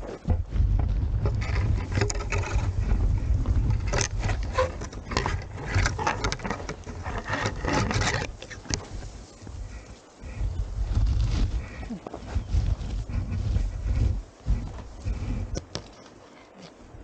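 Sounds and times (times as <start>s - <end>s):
wind rumble on microphone: 0.0s - 16.0s
scraping and rustling clicks: 0.0s - 16.9s.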